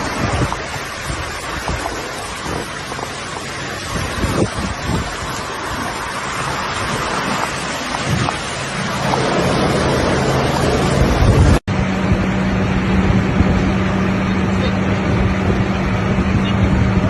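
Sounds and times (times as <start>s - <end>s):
low engine hum: 0.0s - 17.0s
rushing floodwater: 0.0s - 17.0s
wind buffeting microphone: 0.0s - 17.0s.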